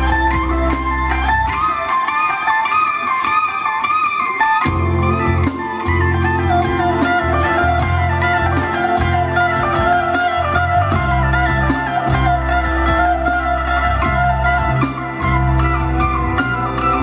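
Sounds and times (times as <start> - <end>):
bass and drums: 0.0 - 1.7, 4.6 - 17.0
electric guitar lead melody: 0.0 - 17.0.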